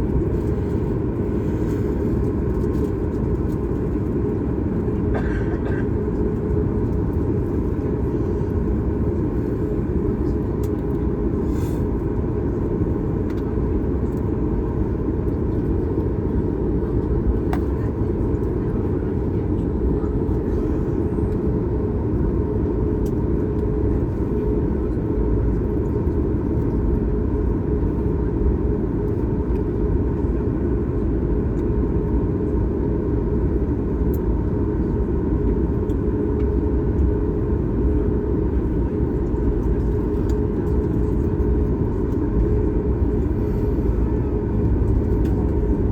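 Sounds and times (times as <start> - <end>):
airplane cabin airflow and engine rumble: 0.0 - 45.9.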